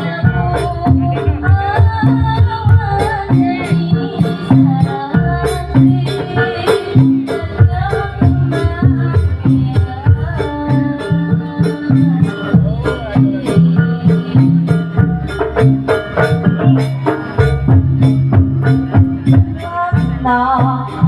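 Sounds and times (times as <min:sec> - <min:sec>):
live percussion ensemble music: 0:00.0 - 0:21.0.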